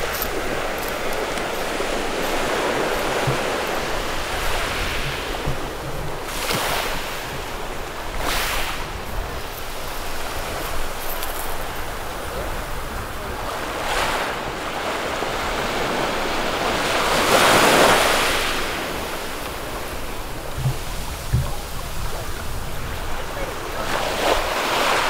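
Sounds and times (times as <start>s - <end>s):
sea waves washing on beach: 0.0s - 25.0s.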